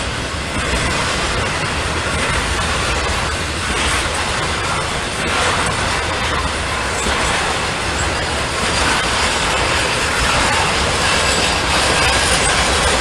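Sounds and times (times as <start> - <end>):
train wheels on rail: 0.0 - 13.0.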